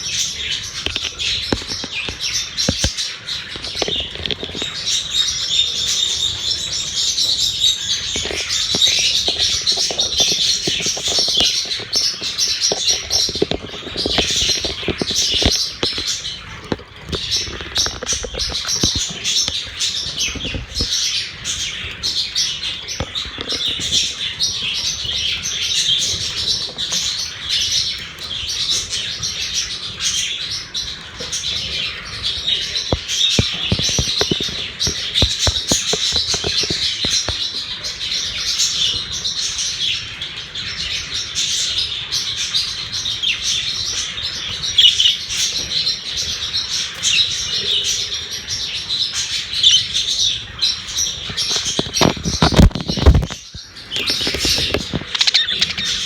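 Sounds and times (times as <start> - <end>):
budgerigars chattering and chirping: 0.0 - 56.0.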